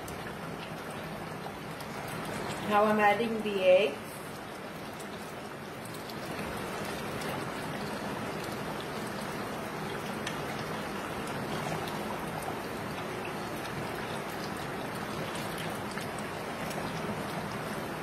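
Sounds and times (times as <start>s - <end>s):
gravy bubbling in a pot: 0.0s - 18.0s.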